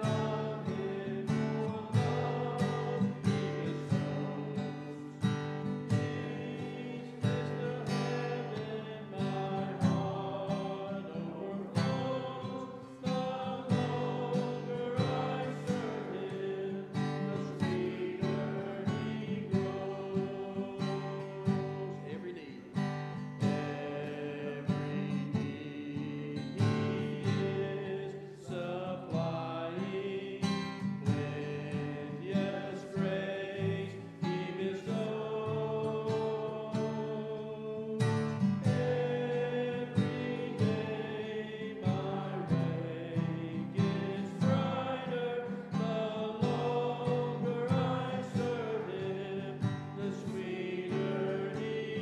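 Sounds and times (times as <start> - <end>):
instrumental hymn music: 0.0 - 52.0.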